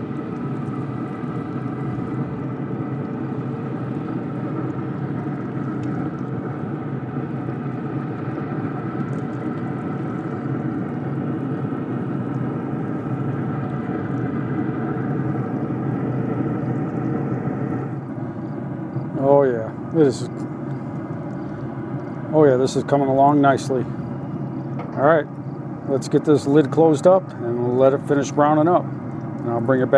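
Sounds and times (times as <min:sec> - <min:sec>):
grill fan hum: 0:00.0 - 0:29.9.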